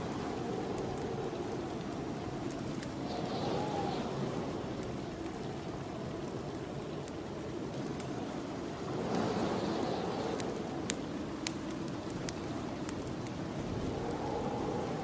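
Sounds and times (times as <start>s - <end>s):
wind blowing: 0.0s - 15.0s
wood fire crackling: 0.0s - 15.0s.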